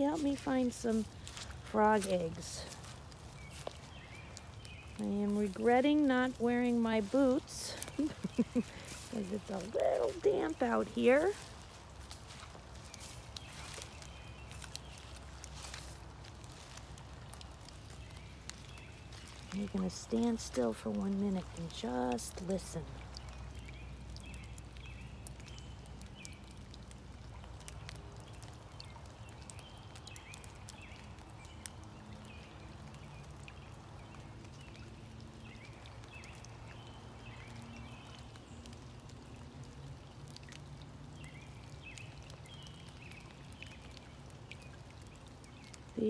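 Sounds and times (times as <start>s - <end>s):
raindrops dripping: 0.0s - 46.0s.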